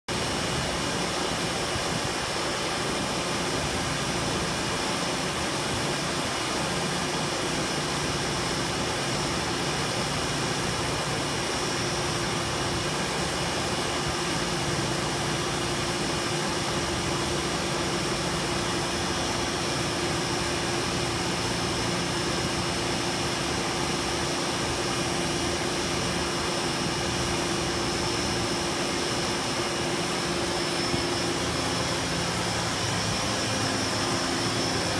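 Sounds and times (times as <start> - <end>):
drum fan running: 0.1 - 34.9.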